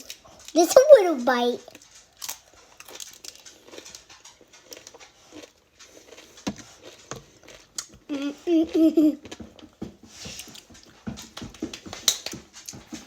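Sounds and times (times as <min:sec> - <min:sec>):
chewing and mouth sounds: 0:00.0 - 0:13.0.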